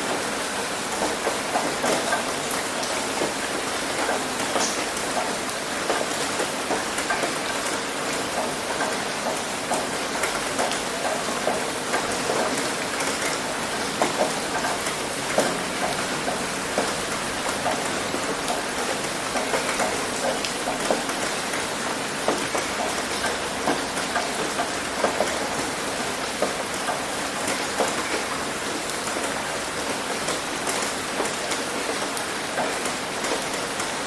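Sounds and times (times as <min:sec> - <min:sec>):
heavy rain on a roof: 0:00.0 - 0:34.0.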